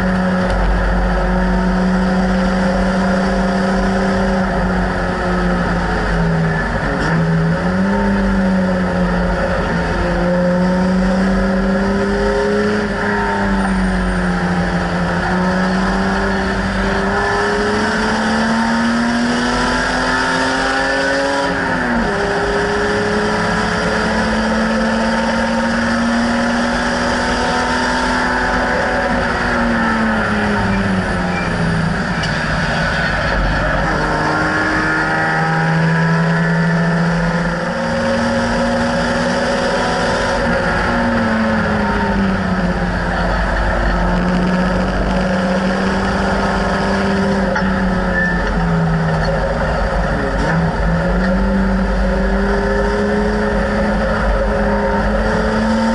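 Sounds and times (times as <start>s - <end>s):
race car engine revving: 0.0s - 55.9s
wind and road noise: 0.0s - 55.9s.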